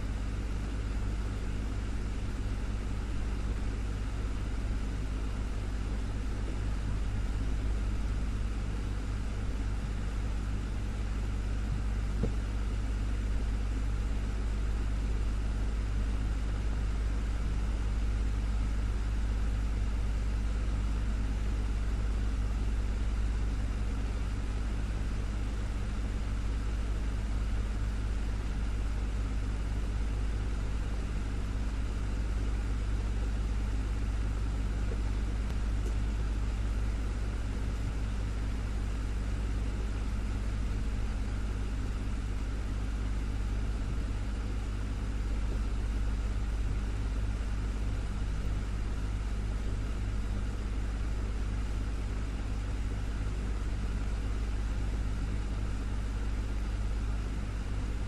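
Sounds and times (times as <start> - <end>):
desktop fan running: 0.0 - 58.0.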